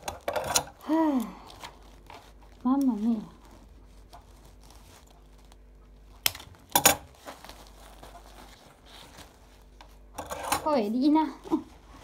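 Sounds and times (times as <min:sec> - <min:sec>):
sharp plastic crackles: 0:00.0 - 0:10.8
plastic packaging crinkling: 0:00.0 - 0:12.0.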